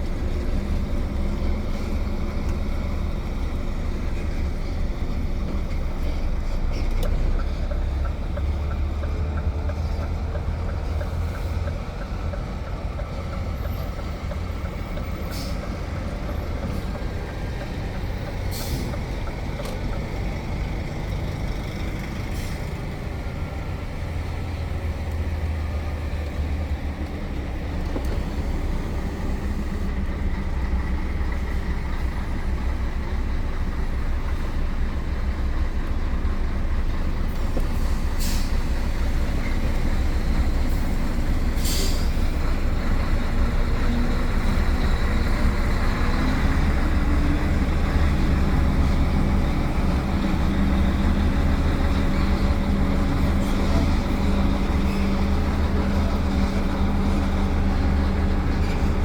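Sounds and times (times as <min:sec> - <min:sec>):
truck diesel engine rumble: 0:00.0 - 0:59.0
tyre and cab noise: 0:00.0 - 0:59.0.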